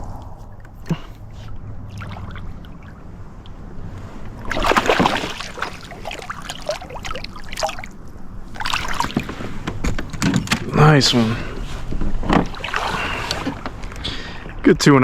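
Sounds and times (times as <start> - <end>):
water splashing and sloshing: 0.0 - 14.6.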